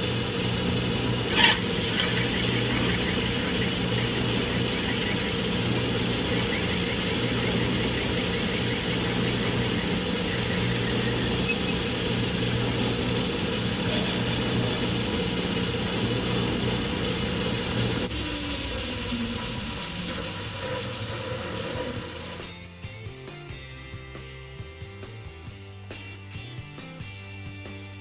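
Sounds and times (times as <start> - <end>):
metal lathe humming: 0.0 - 22.5.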